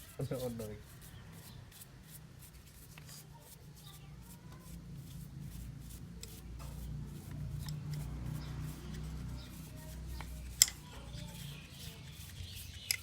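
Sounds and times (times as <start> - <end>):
small clicks and scraping: 1.0 - 13.0.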